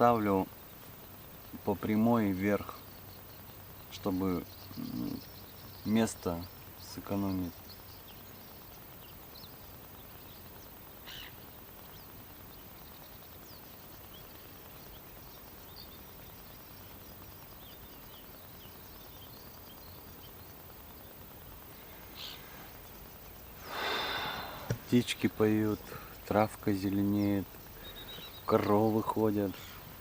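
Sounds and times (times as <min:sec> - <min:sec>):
high bird calls: 0:00.0 - 0:30.0
outdoor ambience hiss: 0:00.0 - 0:30.0
small birds chirping: 0:00.0 - 0:30.0.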